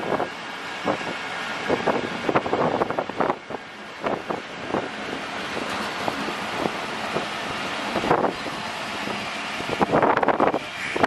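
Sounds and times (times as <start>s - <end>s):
train coaches rumbling: 0.0s - 11.0s
wind on microphone: 0.0s - 11.0s.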